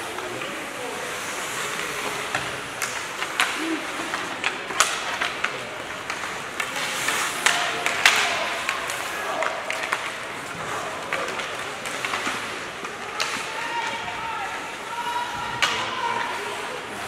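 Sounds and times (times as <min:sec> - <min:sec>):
crowd murmur: 0:00.0 - 0:17.0
hockey sticks hitting puck: 0:00.0 - 0:17.0.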